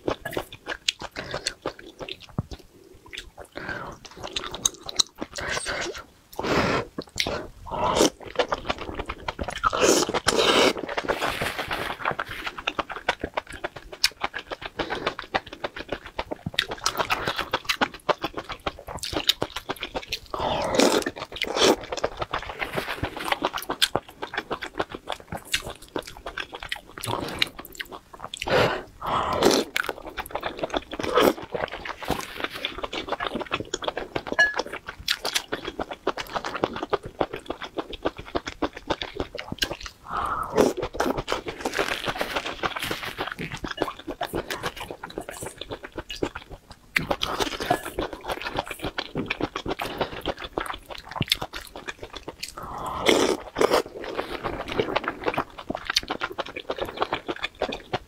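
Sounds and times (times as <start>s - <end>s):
person chewing and crunching food: 0.0s - 58.0s.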